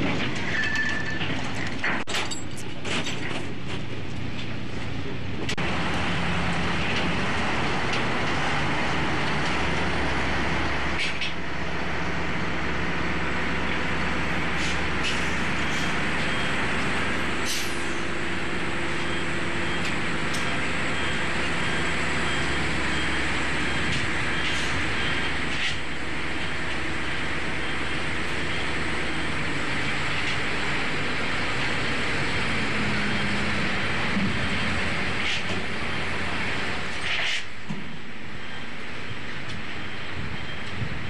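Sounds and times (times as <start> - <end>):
steady engine noise: 2.7 - 41.0.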